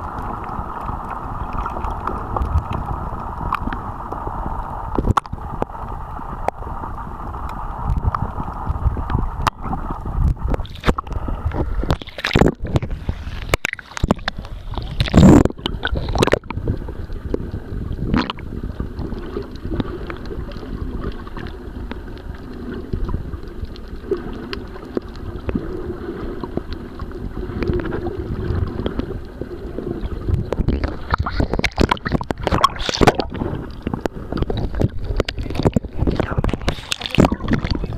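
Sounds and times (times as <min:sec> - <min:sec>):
muffled water sloshing and gurgling: 0:00.0 - 0:37.9.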